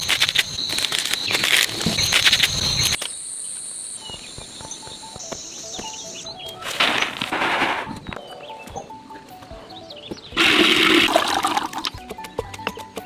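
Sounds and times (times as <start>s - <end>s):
dense rustling and crackling: 0.0s - 3.2s, 4.0s - 11.8s
insects calling in high tones: 0.0s - 13.0s.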